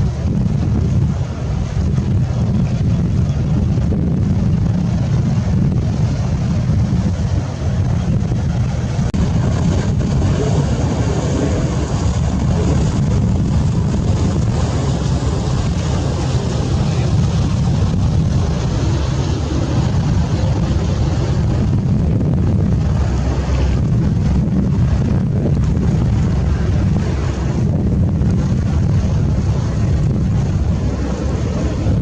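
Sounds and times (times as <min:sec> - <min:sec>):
boat engine running: 0:00.0 - 0:32.0
sea: 0:00.0 - 0:32.0
wind buffeting microphone: 0:00.0 - 0:32.0.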